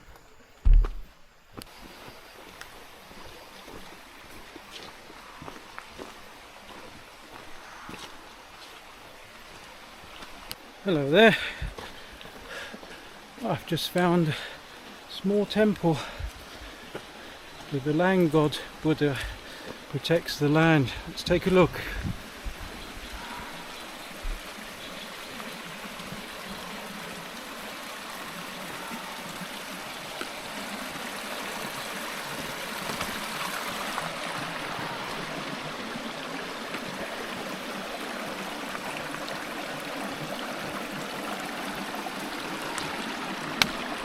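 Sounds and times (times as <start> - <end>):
stream water rushing: 1.6 - 44.0.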